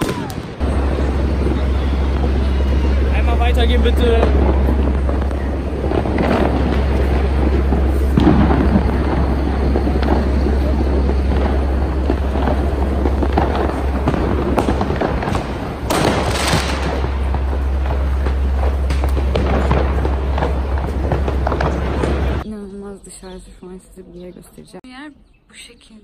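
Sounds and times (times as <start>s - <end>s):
fireworks and firecrackers banging: 0.0s - 22.4s
loud firework blast: 0.0s - 22.4s.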